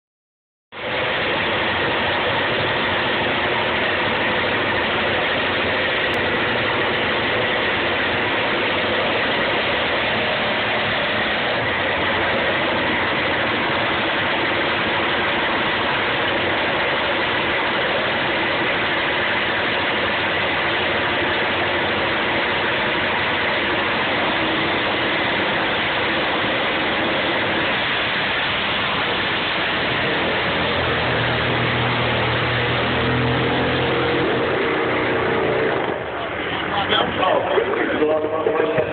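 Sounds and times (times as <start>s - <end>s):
motorcycle engines running: 0.8s - 38.9s.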